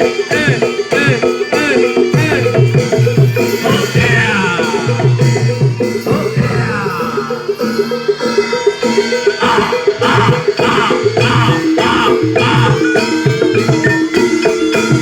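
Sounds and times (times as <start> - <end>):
drums beating: 0.0 - 15.0
high sliding melody: 0.0 - 15.0
pitched percussion notes: 0.0 - 15.0.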